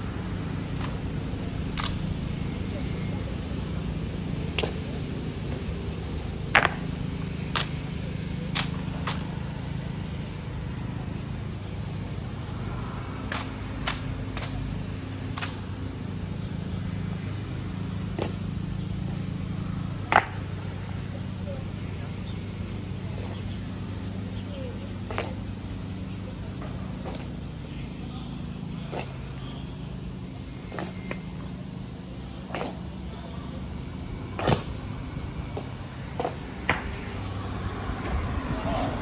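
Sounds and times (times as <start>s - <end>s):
low drone: 0.0s - 39.0s.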